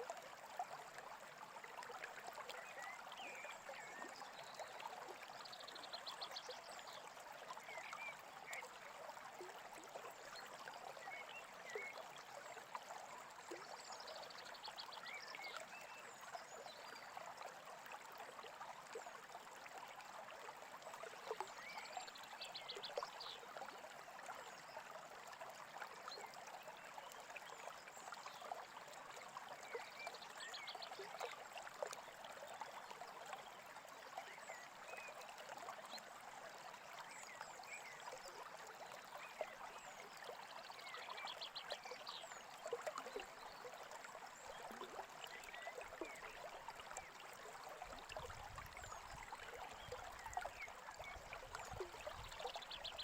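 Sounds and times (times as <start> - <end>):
babbling stream: 0.0 - 53.0.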